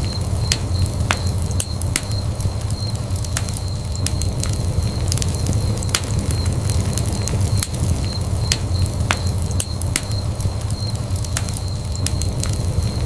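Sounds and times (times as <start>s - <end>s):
fire crackling and popping: 0.0s - 13.0s
fireplace fire rumbling: 0.0s - 13.0s.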